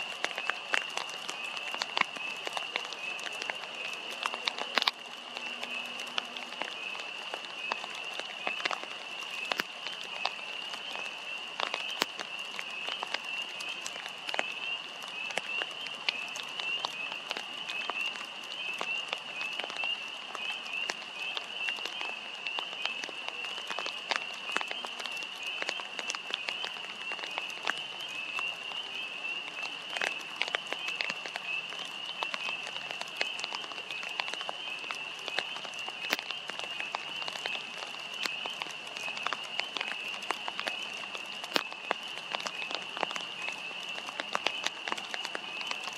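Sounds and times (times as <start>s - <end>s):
frogs calling: 0.1s - 45.9s.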